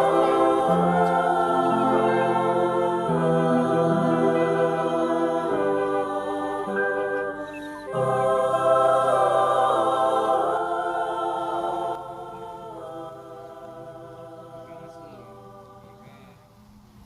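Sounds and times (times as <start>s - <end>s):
song with choir-like vocal chord: 0.0s - 16.8s.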